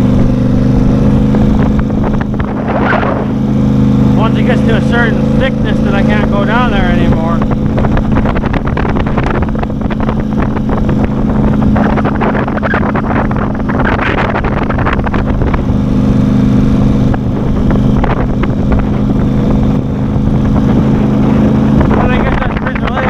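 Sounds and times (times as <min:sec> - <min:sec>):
small vehicle engine droning: 0:00.0 - 0:23.0.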